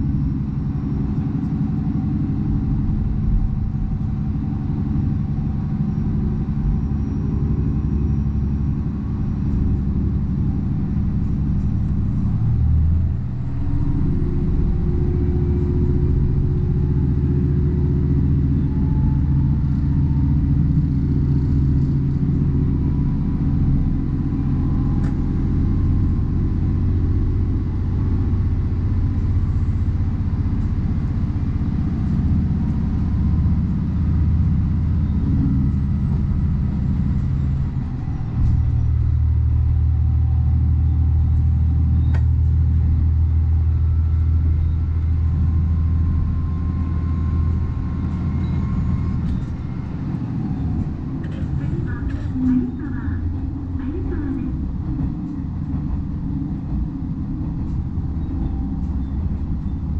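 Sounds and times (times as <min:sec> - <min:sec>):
diesel railcar engine running: 0:00.0 - 0:59.9.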